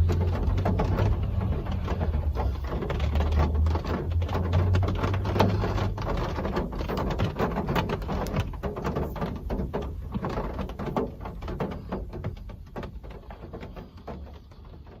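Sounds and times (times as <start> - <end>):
raindrops ticking on a surface: 0.0 - 15.0.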